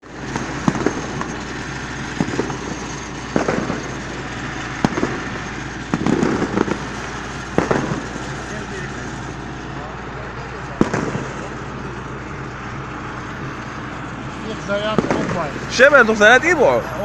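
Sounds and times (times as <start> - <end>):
fireworks bangs: 0.0 - 16.6
steady background rumble: 0.0 - 17.0.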